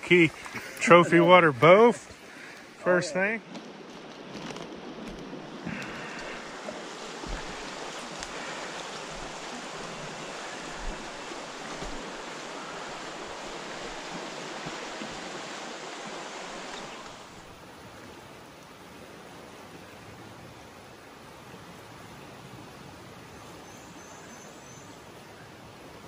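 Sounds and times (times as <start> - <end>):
mountain river rushing: 0.0 - 26.0.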